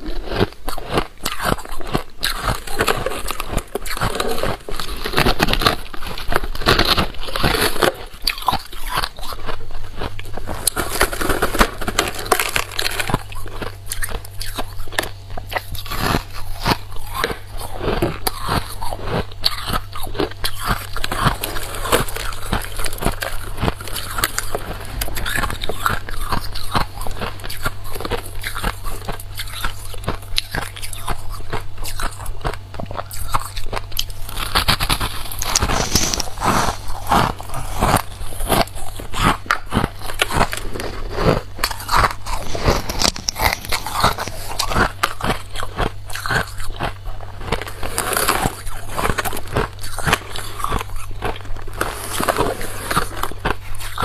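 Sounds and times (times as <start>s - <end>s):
chewing crunchy frost: 0.0s - 54.0s.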